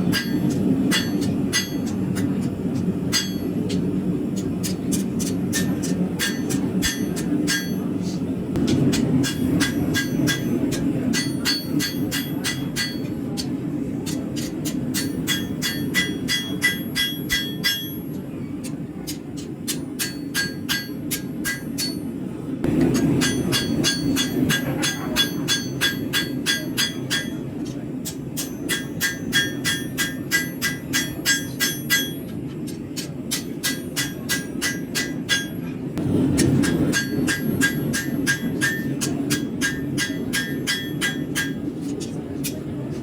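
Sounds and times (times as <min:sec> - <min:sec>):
hammer ringing on anvil: 0:00.0 - 0:13.5, 0:14.1 - 0:18.2, 0:19.4 - 0:41.7.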